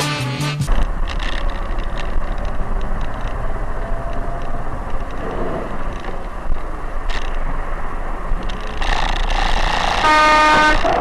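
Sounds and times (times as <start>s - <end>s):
car rumbling along road: 0.7s - 11.0s.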